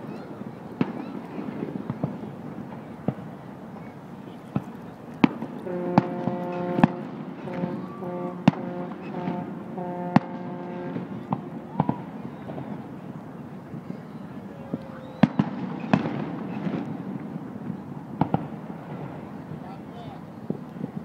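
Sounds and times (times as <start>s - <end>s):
fireworks bangs and pops: 0.8s - 9.5s, 10.1s - 19.8s, 20.4s - 21.0s.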